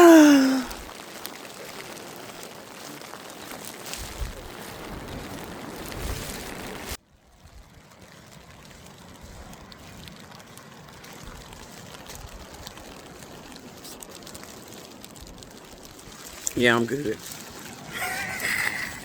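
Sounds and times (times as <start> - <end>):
wind: 0.0 - 19.0
water washing at shore: 0.4 - 7.0, 9.7 - 19.0.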